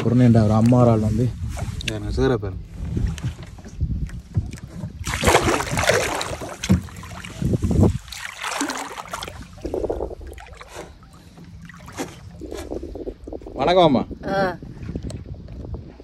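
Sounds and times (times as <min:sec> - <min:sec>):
water sloshing and splashing: 0:00.0 - 0:16.0
wind rumbling on microphone: 0:00.0 - 0:16.0.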